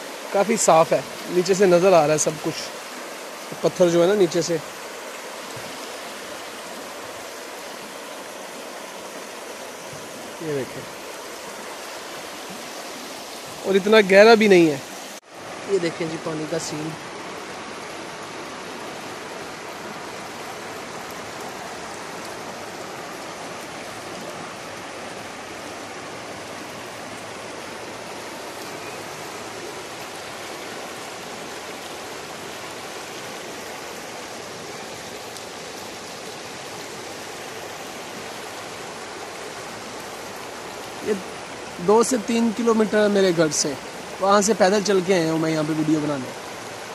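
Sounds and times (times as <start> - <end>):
river rushing over stones: 0.0 - 46.9.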